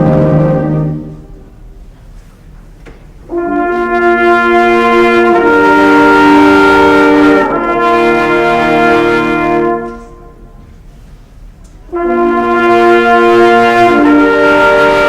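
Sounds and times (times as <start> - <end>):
wind band brass chords: 0.0 - 2.0, 3.2 - 11.0, 11.8 - 15.0.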